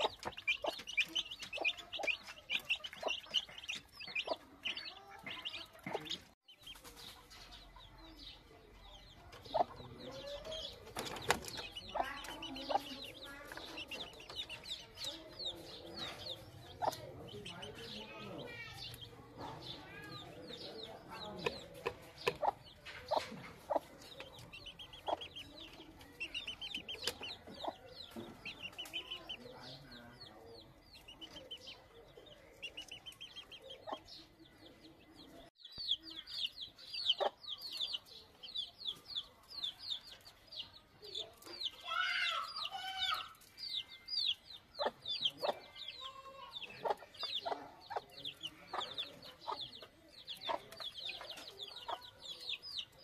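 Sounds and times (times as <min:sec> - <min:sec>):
chickens clucking: 0:00.0 - 0:53.0
chicks peeping: 0:00.0 - 0:53.0.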